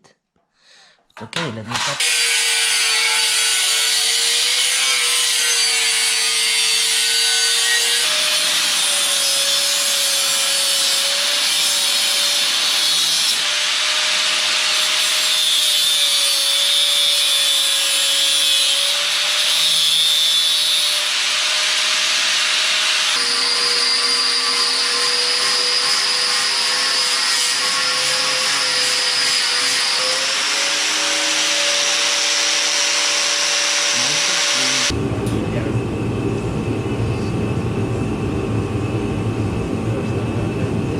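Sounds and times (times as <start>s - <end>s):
power tool cutting sheet metal: 1.7s - 35.0s.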